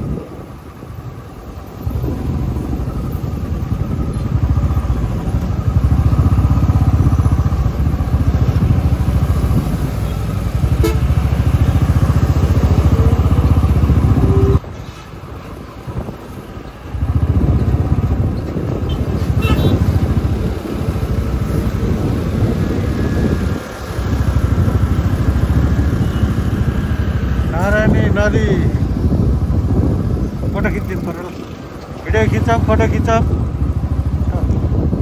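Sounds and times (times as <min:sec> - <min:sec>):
motorcycle engine running: 0:00.0 - 0:14.6, 0:16.8 - 0:35.0.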